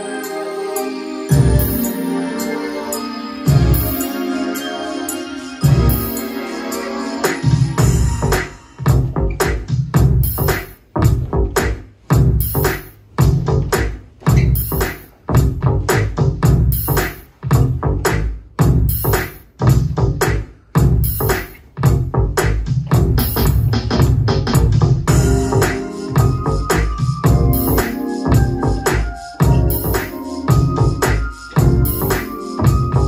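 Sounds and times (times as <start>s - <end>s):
electronic dance music: 0.0s - 33.0s.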